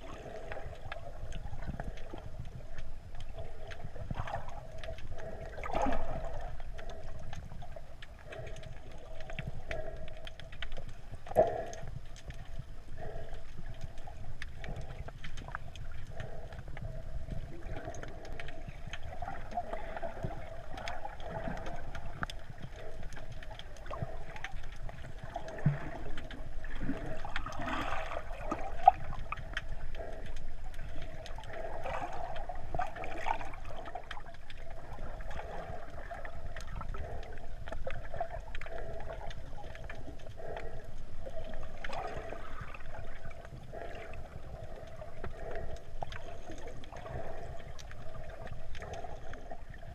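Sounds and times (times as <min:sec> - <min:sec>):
muffled gurgling water underwater: 0:00.0 - 0:49.9
small crackles and clicks: 0:00.0 - 0:49.9.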